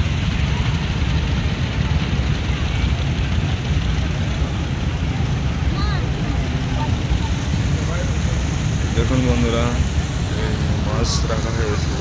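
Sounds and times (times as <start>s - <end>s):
faint crowd voices: 0.0s - 12.0s
low crowd rumble: 0.0s - 12.0s.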